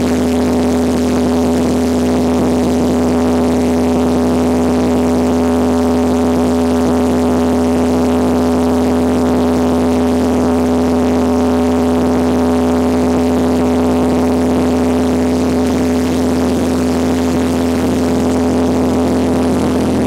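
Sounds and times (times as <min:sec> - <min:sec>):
plane engine and propeller drone: 0:00.0 - 0:20.0.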